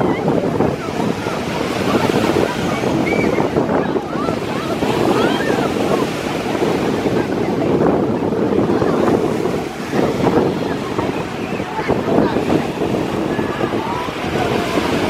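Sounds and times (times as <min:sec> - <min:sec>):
ocean surf washing in: 0:00.0 - 0:15.0
wind buffeting microphone: 0:00.0 - 0:15.0.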